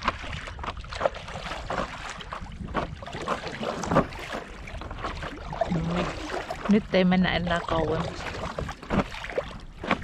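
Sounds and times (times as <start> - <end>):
paddles splashing in water: 0.0 - 10.0
wind rumbling on microphone: 0.0 - 10.0.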